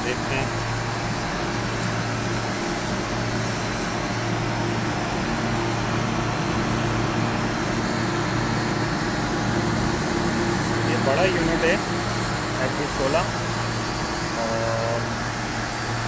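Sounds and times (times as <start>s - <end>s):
machinery hum: 0.0s - 16.0s
steady hiss: 0.0s - 16.0s.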